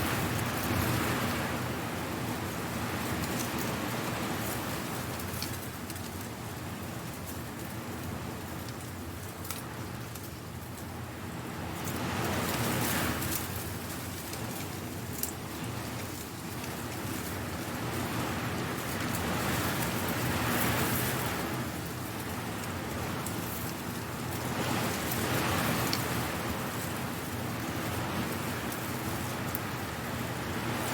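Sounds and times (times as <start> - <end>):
wind rustling dry leaves: 0.0 - 30.9.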